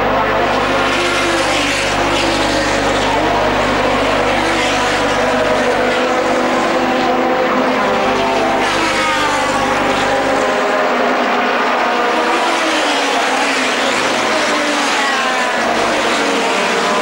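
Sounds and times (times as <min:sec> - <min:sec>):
racing car engines passing: 0:00.0 - 0:17.0.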